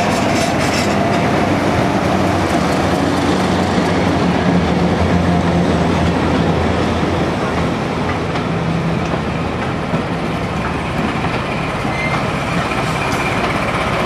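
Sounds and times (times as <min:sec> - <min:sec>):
diesel locomotive engine: 0:00.0 - 0:14.0
train coaches rolling on rails: 0:00.0 - 0:14.0.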